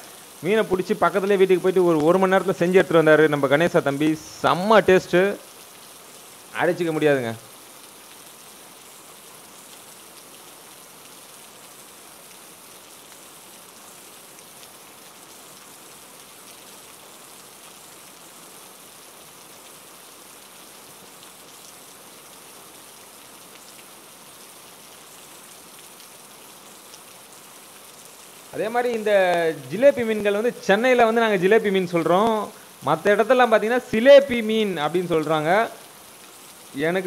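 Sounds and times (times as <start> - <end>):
heavy rain falling: 0.0 - 37.0.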